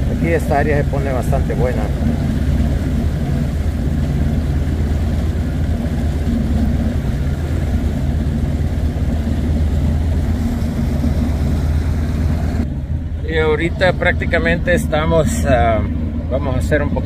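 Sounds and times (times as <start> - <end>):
outboard motor running: 0.0 - 17.0
wind and water rushing: 0.0 - 17.0.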